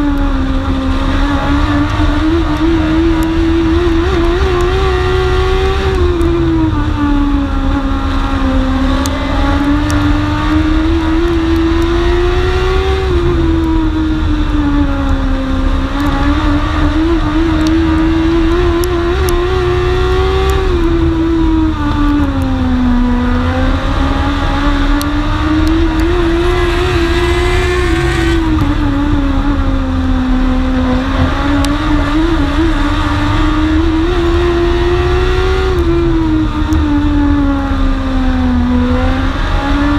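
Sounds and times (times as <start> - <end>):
heavy low rumble: 0.0 - 11.9, 13.0 - 38.0
race car engine: 0.0 - 39.9.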